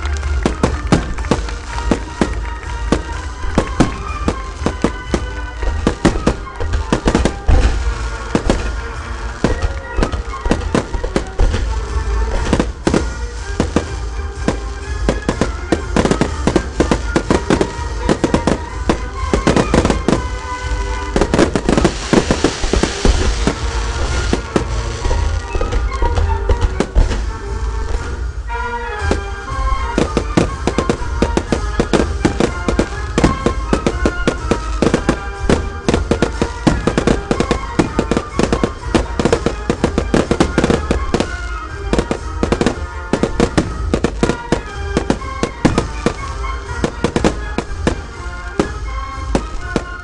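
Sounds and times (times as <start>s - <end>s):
fireworks bangs and crackles: 0.0s - 50.0s
ground fountains hissing: 0.0s - 50.0s
music playing: 0.0s - 50.0s.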